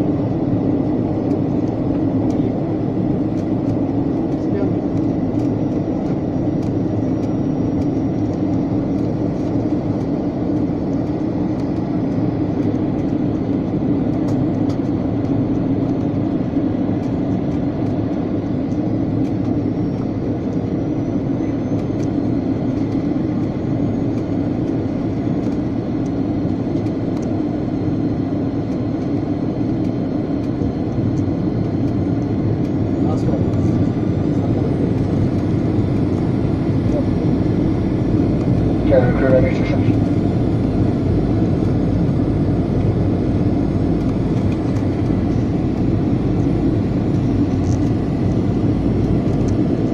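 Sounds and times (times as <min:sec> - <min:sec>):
airliner cabin roar: 0:00.0 - 0:49.9.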